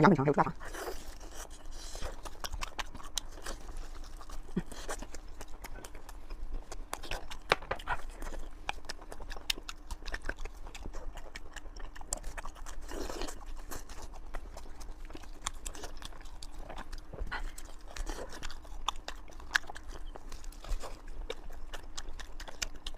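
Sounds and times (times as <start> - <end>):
wet chewing mouth sounds: 0.4 - 22.9.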